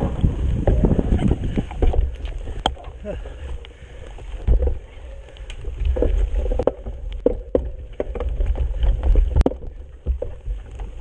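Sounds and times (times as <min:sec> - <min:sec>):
bike clicks and rattles: 0:00.0 - 0:11.0
wind rumble on microphone: 0:00.0 - 0:11.0.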